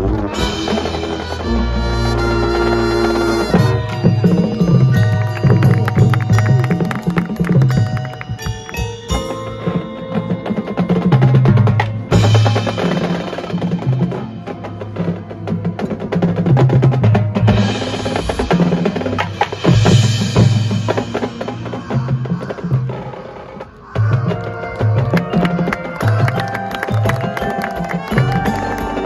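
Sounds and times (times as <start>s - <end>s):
marching drums: 0.0s - 29.0s
mallet percussion: 0.2s - 29.0s.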